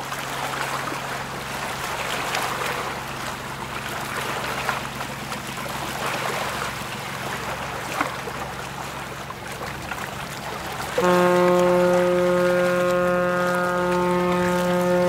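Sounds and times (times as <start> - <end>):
low engine hum: 0.0 - 15.0
water rushing and splashing: 0.0 - 15.0.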